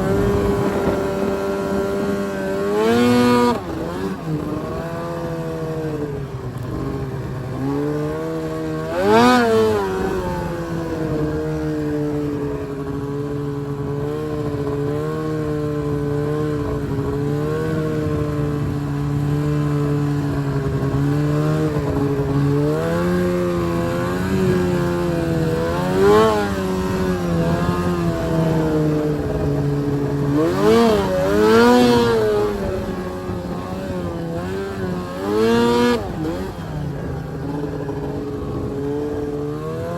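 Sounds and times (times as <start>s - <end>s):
engine revving: 0.0s - 39.9s
snowmobile engine running: 0.0s - 39.9s.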